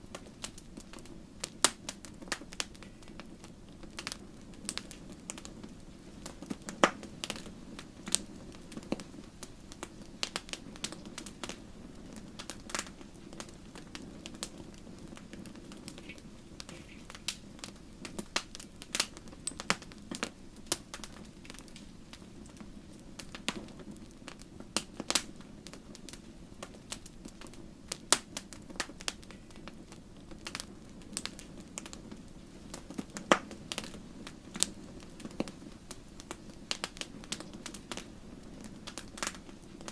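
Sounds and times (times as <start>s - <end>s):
logs crackling and popping: 0.0s - 39.9s
low roar of flames: 0.0s - 39.9s.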